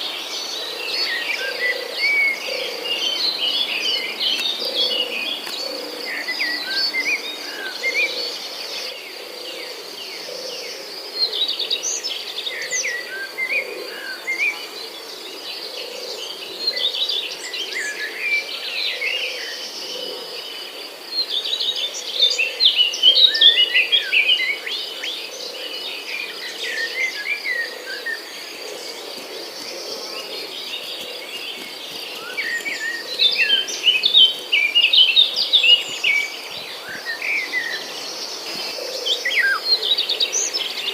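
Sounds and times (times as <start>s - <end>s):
bird calls and chirps: 0.0s - 20.6s, 21.2s - 40.9s.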